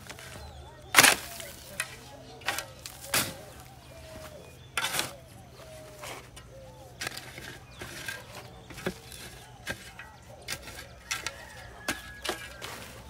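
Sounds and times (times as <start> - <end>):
faint bird calls: 0.0 - 13.0
shovel chopping dry soil: 0.0 - 13.0.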